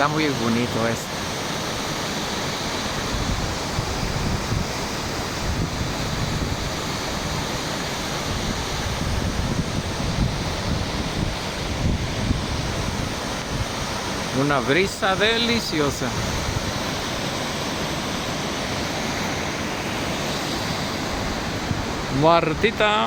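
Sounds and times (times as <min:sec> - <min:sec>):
waterfall rushing: 0:00.0 - 0:23.0
wind gusting on microphone: 0:02.0 - 0:23.0.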